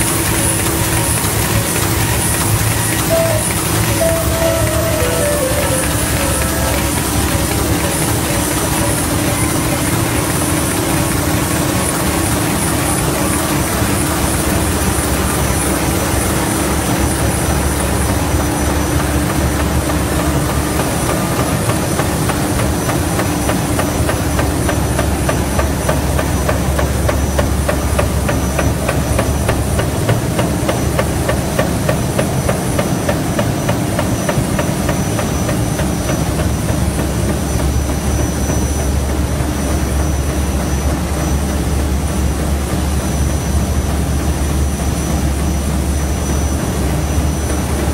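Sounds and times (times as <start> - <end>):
factory machine running: 0.0 - 47.9
fast even machine clatter: 0.0 - 47.9.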